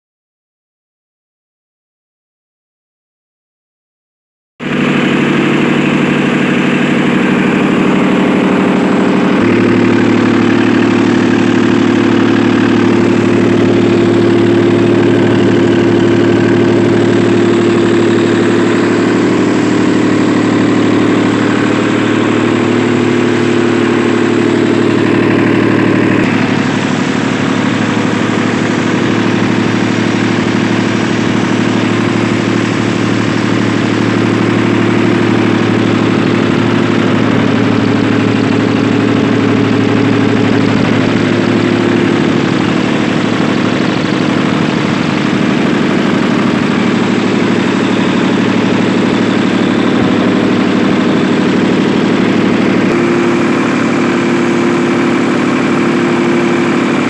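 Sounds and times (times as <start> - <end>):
generator engine humming: 4.6 - 57.0.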